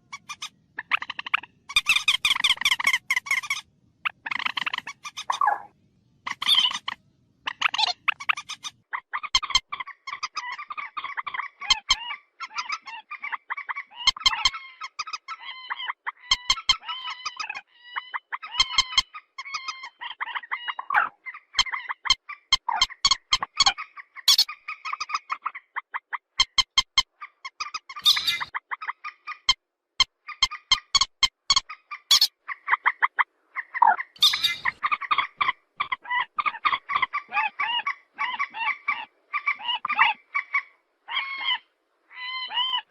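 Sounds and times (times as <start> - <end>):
waterhen croaking calls: 0.0 - 42.9.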